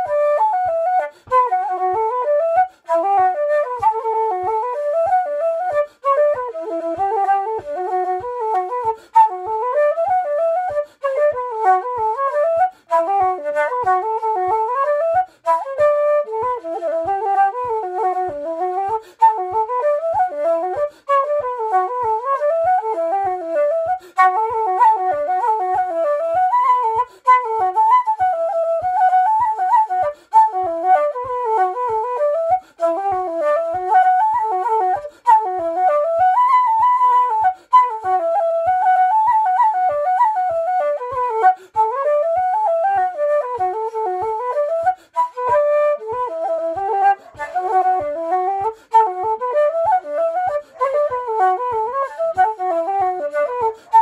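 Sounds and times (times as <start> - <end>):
wooden flute playing a fast reel: 0.0 - 54.0.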